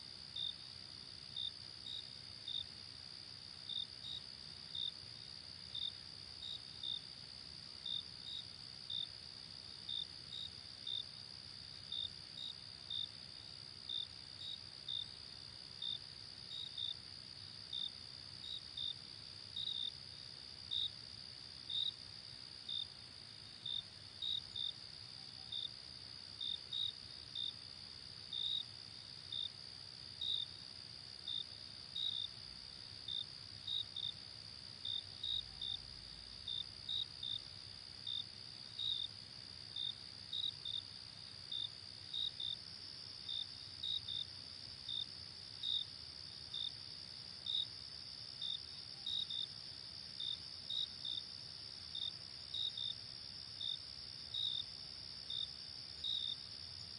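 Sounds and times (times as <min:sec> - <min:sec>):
crickets chirping: 0:00.0 - 0:56.9
faint low hiss: 0:00.0 - 0:56.9.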